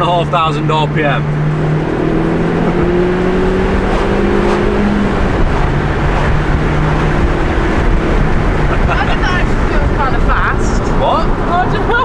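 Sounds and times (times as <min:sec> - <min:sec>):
car engine revving: 0:00.0 - 0:12.0
tyre and road noise: 0:00.0 - 0:12.0.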